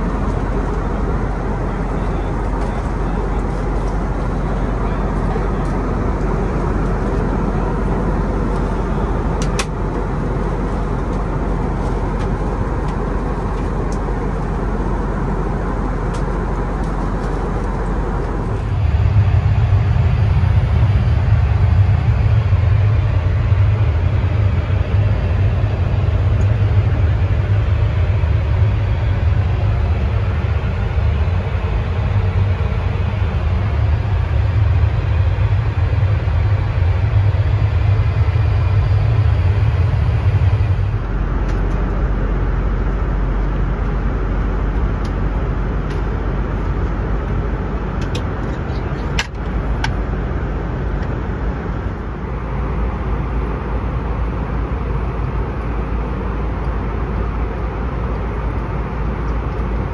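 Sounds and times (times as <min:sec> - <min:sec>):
airplane cabin noise: 0:00.0 - 0:59.9.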